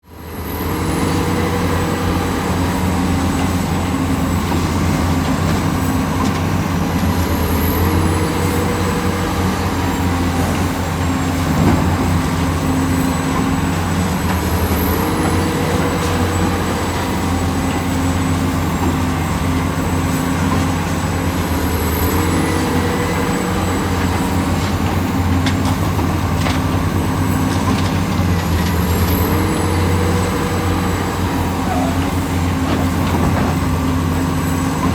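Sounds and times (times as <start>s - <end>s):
heavy machinery engine under load: 0.1s - 34.9s.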